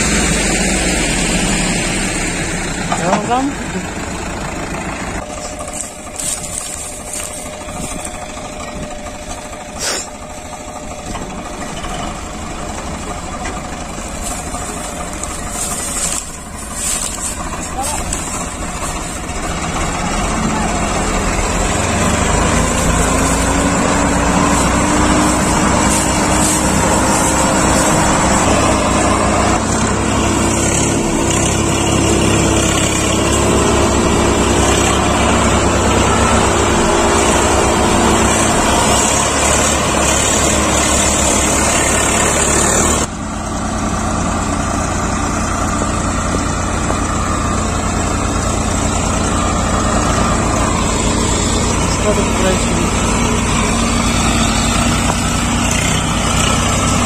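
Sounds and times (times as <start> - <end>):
diesel tractor engines under load: 0.0 - 57.0.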